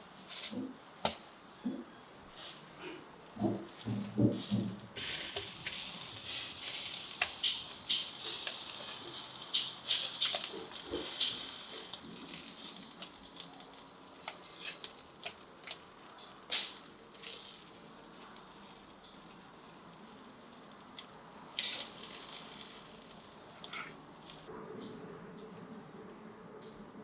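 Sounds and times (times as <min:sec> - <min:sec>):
charcoal crackles and pops: 0:00.0 - 0:24.5
meat sizzling over charcoal: 0:00.0 - 0:24.5.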